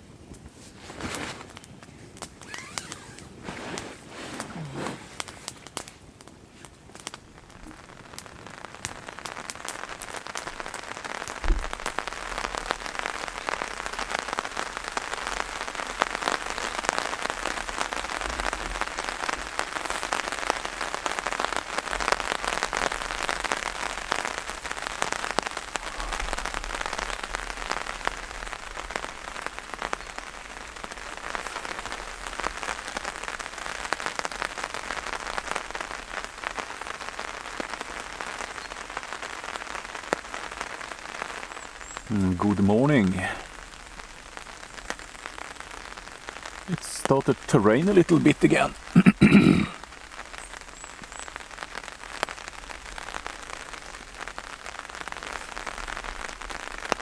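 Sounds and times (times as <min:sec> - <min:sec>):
rain pattering on a tarp: 0:00.0 - 0:57.0.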